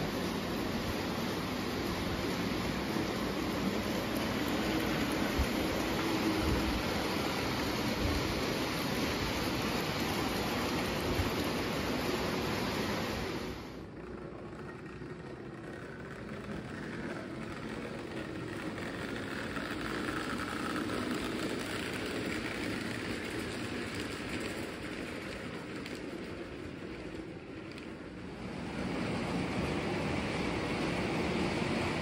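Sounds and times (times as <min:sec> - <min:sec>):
model train wheels rolling: 0:00.0 - 0:32.0.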